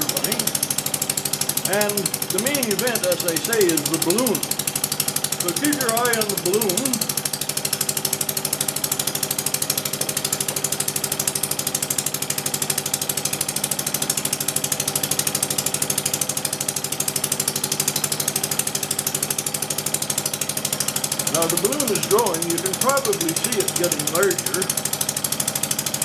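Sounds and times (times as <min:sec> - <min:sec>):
model engine and compressor clatter: 0:00.0 - 0:26.0.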